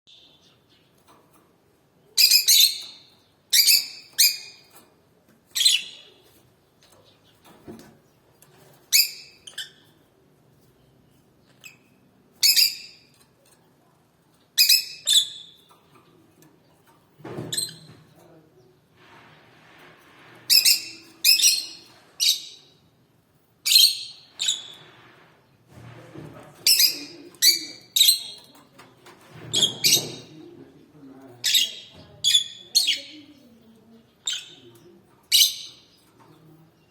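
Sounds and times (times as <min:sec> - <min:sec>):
canary chirping: 0:02.0 - 0:13.6, 0:14.3 - 0:18.0, 0:20.1 - 0:22.9, 0:23.6 - 0:25.2, 0:26.6 - 0:36.9.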